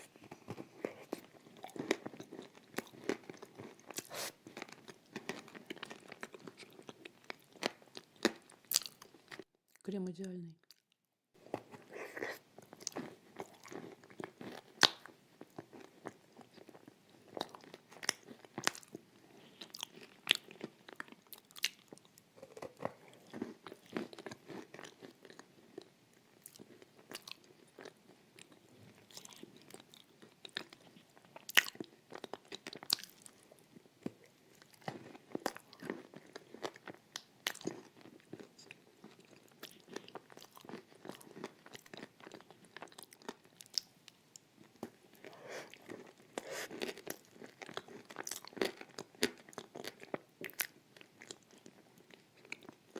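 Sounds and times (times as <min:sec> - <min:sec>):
soft chewing: 0:00.0 - 0:09.8, 0:10.6 - 0:52.9.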